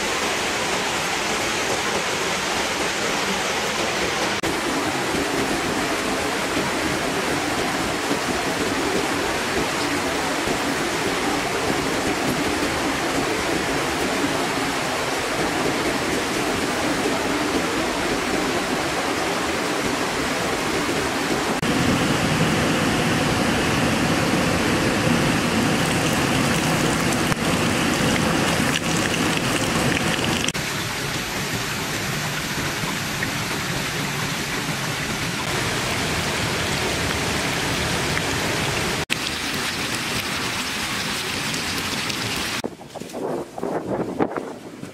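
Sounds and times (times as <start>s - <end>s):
stream running over rocks: 0.0s - 44.4s.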